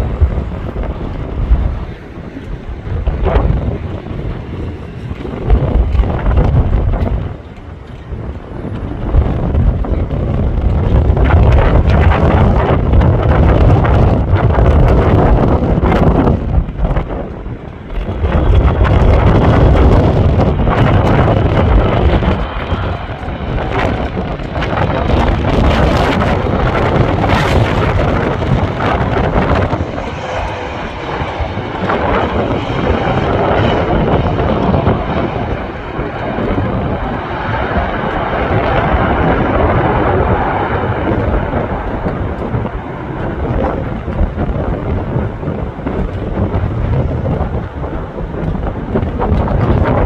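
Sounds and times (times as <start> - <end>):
jet engine noise: 0.0 - 50.0
wind buffeting microphone: 0.0 - 50.0.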